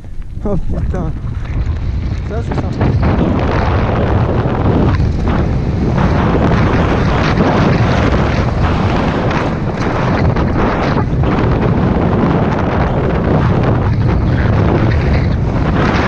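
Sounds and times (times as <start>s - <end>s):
bike rattling over gravel: 0.0s - 16.0s
wind buffeting microphone: 0.0s - 16.0s.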